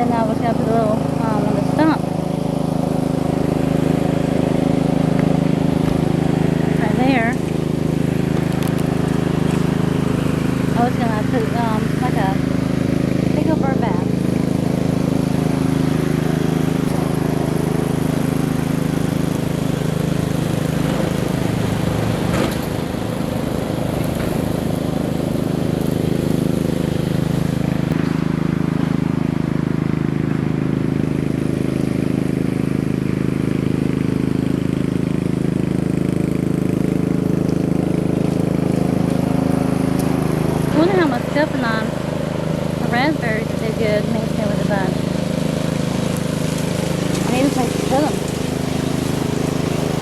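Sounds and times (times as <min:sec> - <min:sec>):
small gasoline engine running: 0:00.0 - 0:50.0.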